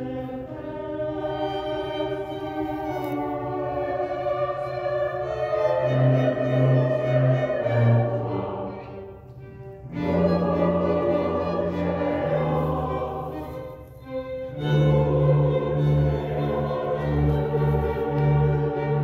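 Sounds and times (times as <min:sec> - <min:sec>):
music with long held notes: 0:00.0 - 0:19.0.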